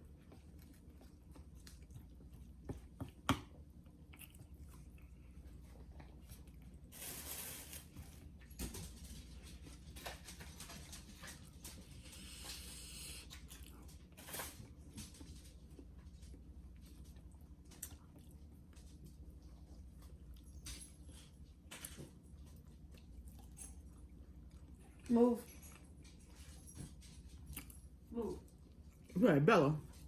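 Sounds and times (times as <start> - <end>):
chewing with wet mouth sounds: 0.0 - 6.9, 9.5 - 29.2.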